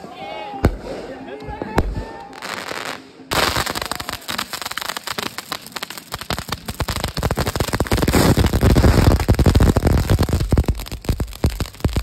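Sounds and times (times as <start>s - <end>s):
fireworks crackling: 0.6s - 12.0s.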